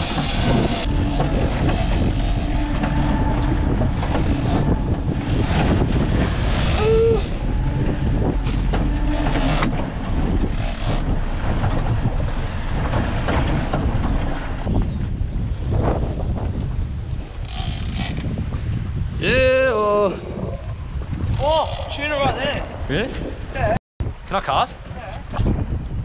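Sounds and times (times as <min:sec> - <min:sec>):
boat rumbling in choppy water: 0:00.0 - 0:26.0
wind buffeting microphone: 0:00.0 - 0:26.0.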